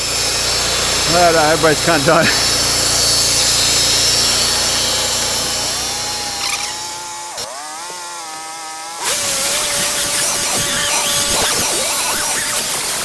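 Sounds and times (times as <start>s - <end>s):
bandsaw mechanical whine: 0.0s - 13.0s.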